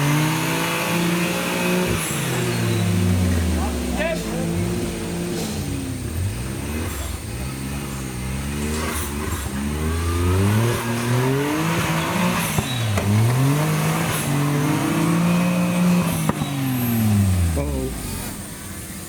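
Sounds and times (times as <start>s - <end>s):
engine revving up and down: 0.0s - 19.0s.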